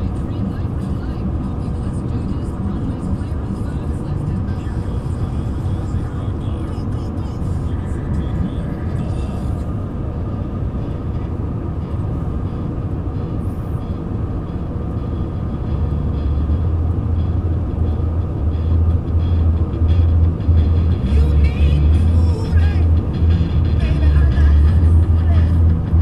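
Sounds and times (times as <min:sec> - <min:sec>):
low throb pulsing: 0:00.0 - 0:26.0
train passing rumble: 0:00.0 - 0:26.0.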